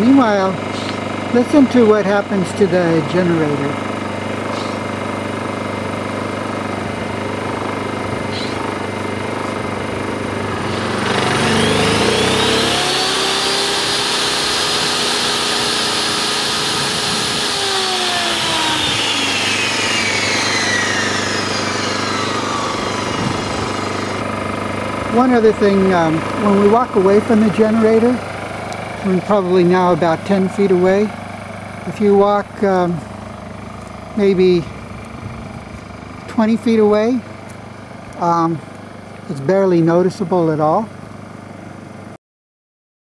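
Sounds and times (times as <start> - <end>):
table saw motor whine: 0.0 - 39.9
generator engine running: 0.0 - 42.2.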